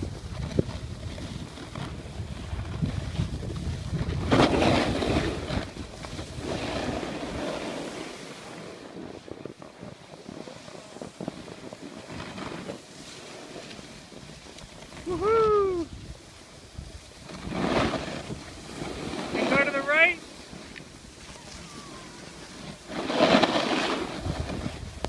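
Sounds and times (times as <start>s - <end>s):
skis scraping over packed snow: 0.0s - 25.0s
wind buffeting microphone: 0.0s - 25.0s.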